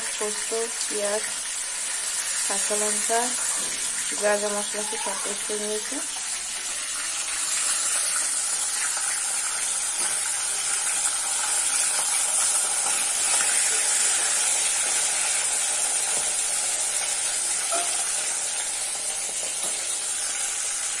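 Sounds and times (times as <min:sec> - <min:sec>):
fish frying in hot oil: 0:00.0 - 0:21.0.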